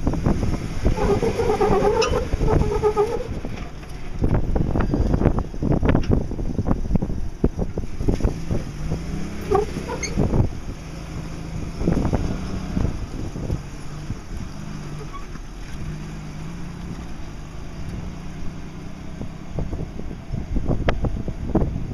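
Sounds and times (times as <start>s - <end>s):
off-road engine under load: 0.0s - 21.9s
wind buffeting microphone: 0.0s - 21.9s.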